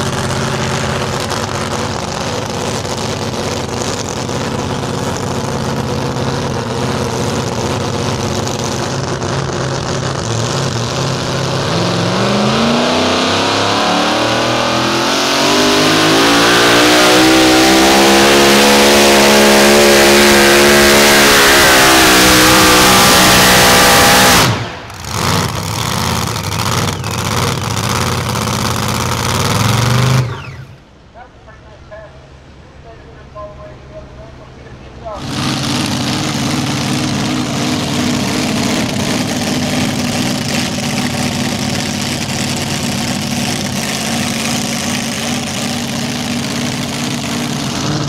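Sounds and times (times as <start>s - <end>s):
truck engine revving: 0.0s - 30.9s, 35.1s - 48.0s.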